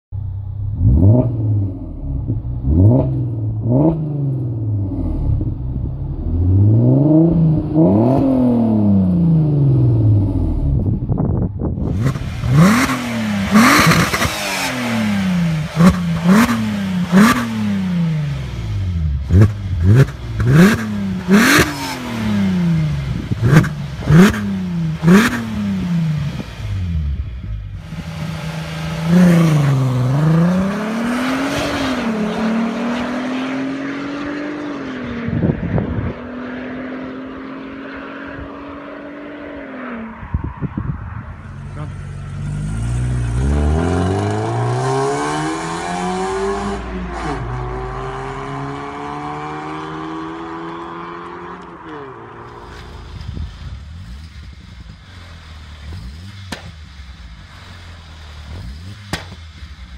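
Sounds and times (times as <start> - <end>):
car engine revving: 0.4 - 59.9.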